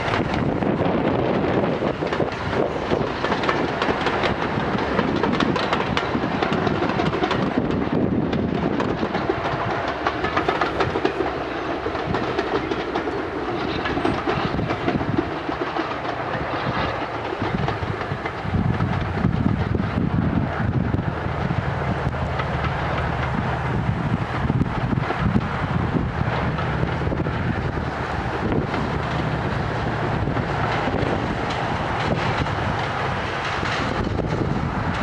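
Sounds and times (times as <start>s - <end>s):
steam locomotive exhaust chuffs: 0.0s - 35.0s
train wheels clattering on rails: 0.0s - 35.0s.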